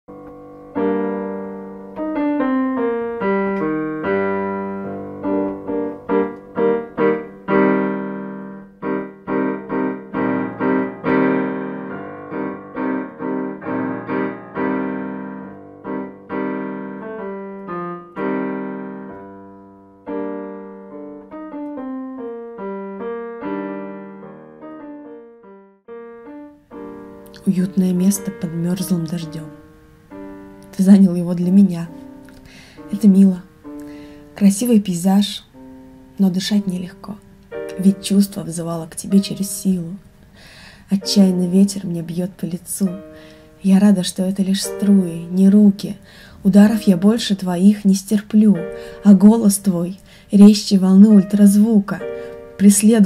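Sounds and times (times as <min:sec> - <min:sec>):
slow solo piano piece: 0:00.1 - 0:53.0.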